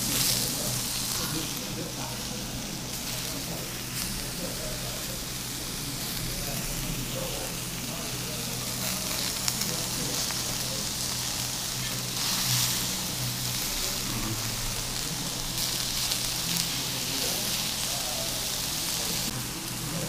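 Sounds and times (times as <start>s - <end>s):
meat sizzling on hot stone: 0.0s - 20.0s.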